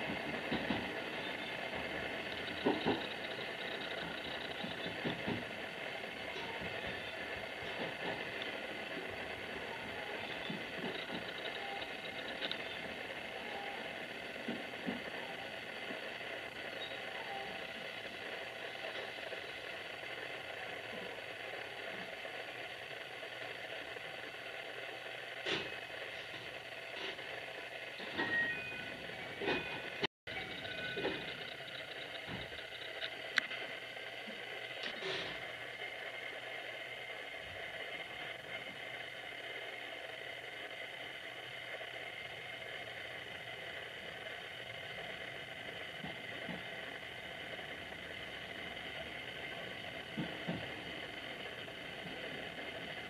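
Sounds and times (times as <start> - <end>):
electric train interior noise: 0.0 - 53.0.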